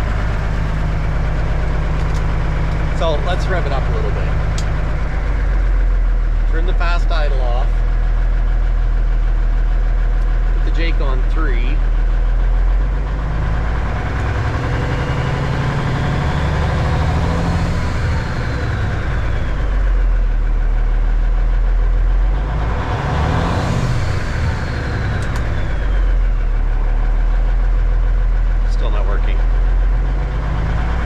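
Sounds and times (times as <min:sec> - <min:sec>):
diesel engine revving: 0:00.0 - 0:31.0.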